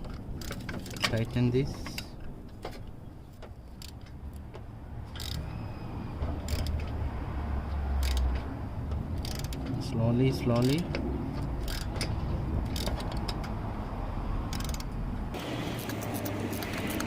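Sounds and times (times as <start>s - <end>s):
socket wrench clicking and scraping: 0.0s - 5.5s, 6.2s - 7.0s, 7.9s - 13.6s, 14.4s - 15.0s, 15.8s - 17.0s.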